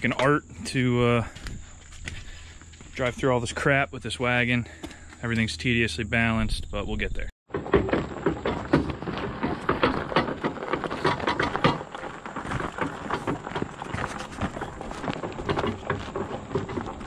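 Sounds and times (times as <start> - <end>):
wagon wheels crunching on gravel: 0.0 - 5.5, 7.5 - 17.0
footsteps on gravel: 0.7 - 5.5, 7.5 - 17.0.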